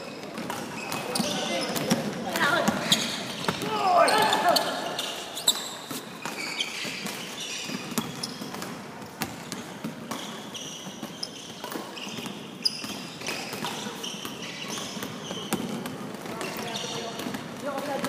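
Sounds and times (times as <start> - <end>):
basketballs bouncing on wooden floor: 0.0 - 18.0
sneaker squeaks: 0.0 - 18.0.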